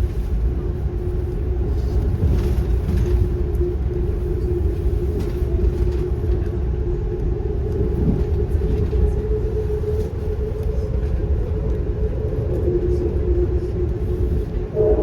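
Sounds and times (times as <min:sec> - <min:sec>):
moving train rumbling: 0:00.0 - 0:15.0.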